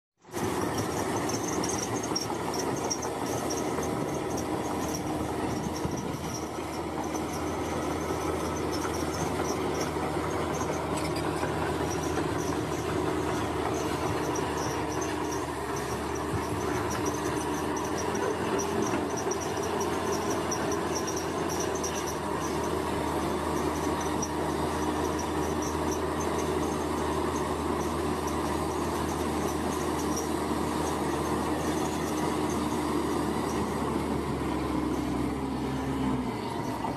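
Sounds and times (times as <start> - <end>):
bulldozer diesel engine: 0.2 - 36.9.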